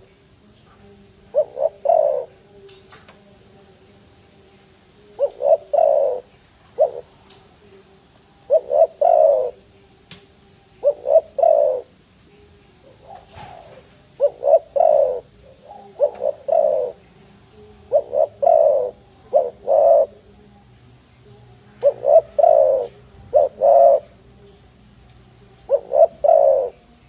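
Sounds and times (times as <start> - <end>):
dove cooing: 0.8 - 2.6, 4.8 - 9.7, 10.6 - 27.0.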